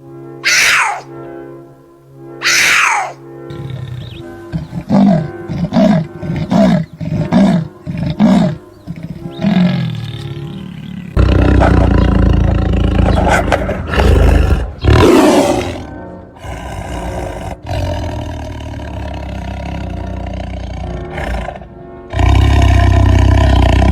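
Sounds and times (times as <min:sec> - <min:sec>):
big cats roaring: 0:00.4 - 0:01.1, 0:02.4 - 0:23.9.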